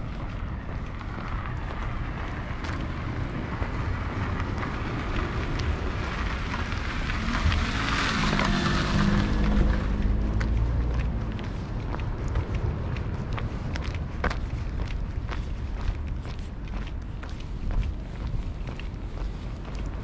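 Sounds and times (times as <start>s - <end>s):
engine hum approaching: 0.0s - 20.0s
wind rumbling on microphone: 0.0s - 20.0s.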